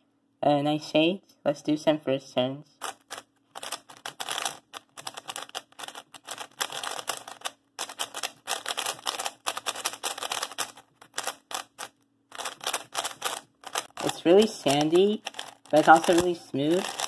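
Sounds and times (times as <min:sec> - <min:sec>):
plastic puzzle cube clicking: 0:02.8 - 0:17.0.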